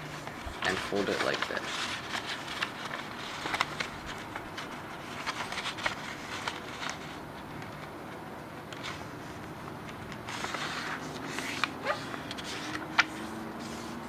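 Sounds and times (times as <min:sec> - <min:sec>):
paper rustling and crackling: 0:00.0 - 0:14.0.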